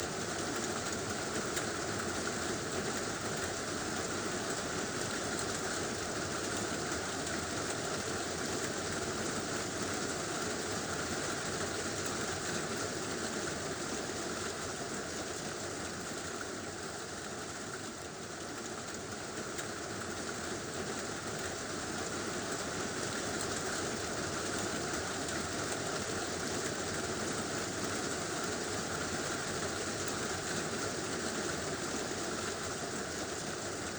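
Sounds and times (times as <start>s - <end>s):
heavy rain on a tin roof: 0.0s - 33.9s.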